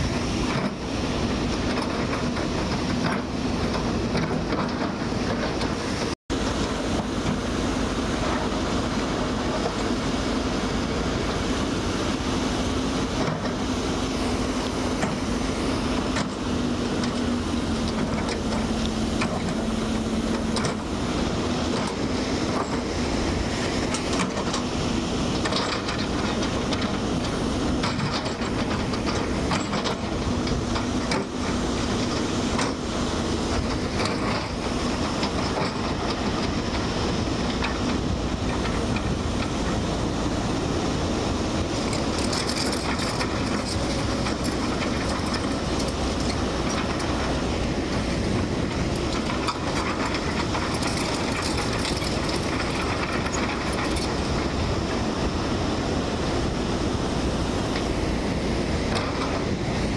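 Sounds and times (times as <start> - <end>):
waves breaking on shore: 0.0 - 59.9
wind buffeting microphone: 0.0 - 59.9.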